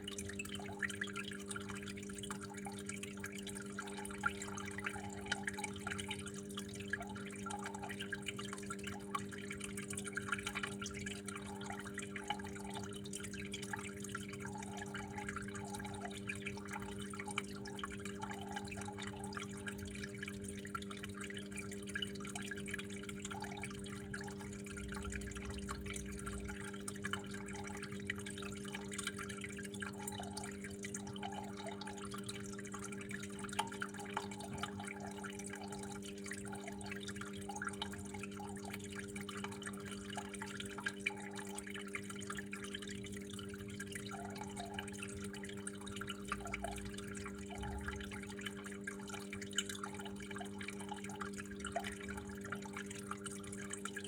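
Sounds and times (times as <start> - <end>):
constant low hum: 0.0 - 41.5, 42.7 - 53.5
small water splashes: 0.0 - 54.0
water trickling and dripping: 0.0 - 54.0.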